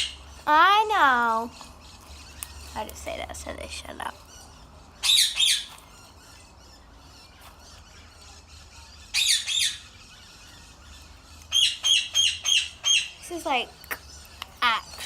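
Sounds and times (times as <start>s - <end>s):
bird squawking: 0.0s - 15.0s.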